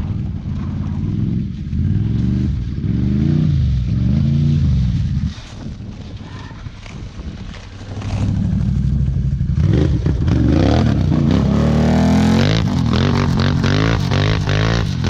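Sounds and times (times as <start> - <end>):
atv engine revving: 0.0 - 5.0, 8.0 - 15.0.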